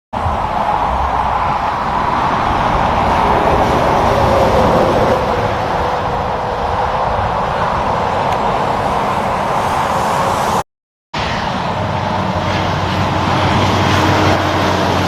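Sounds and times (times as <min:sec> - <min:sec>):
trucks driving past: 0:00.2 - 0:10.6, 0:11.2 - 0:15.0.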